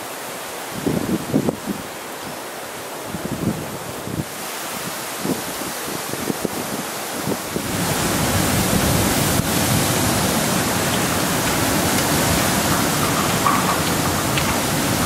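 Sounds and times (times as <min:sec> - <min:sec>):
strong wind buffeting microphone: 0:00.7 - 0:01.9, 0:03.1 - 0:15.0.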